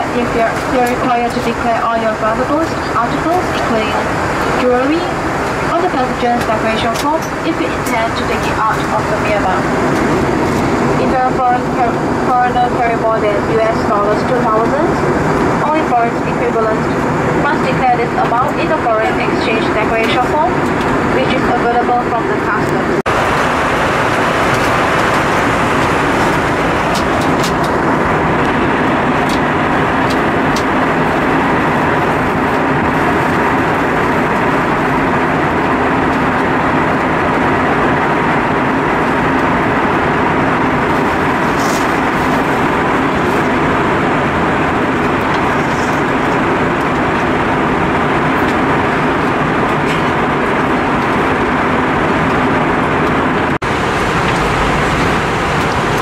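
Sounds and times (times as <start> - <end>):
airliner cabin noise: 0.0 - 56.0.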